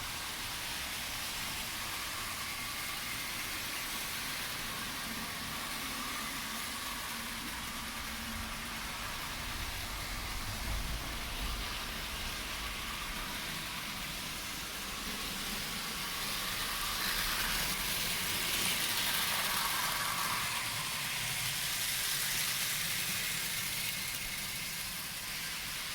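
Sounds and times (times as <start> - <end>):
model train motor whirring: 0.0 - 25.9.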